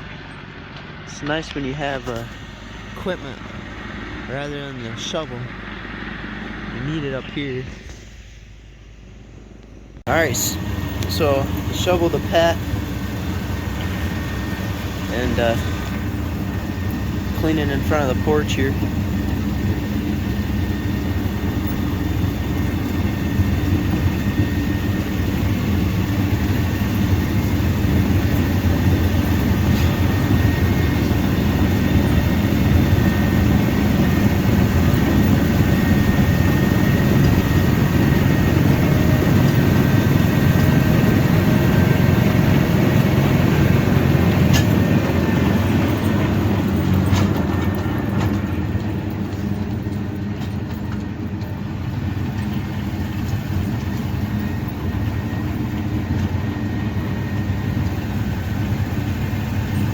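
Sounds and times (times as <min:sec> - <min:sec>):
snowblower running: 0:00.0 - 0:59.9.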